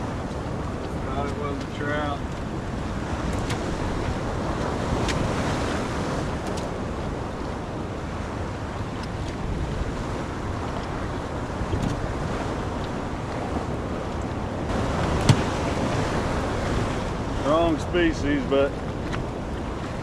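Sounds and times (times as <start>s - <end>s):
waves washing: 0.0s - 20.0s
wind noise on microphone: 0.0s - 20.0s.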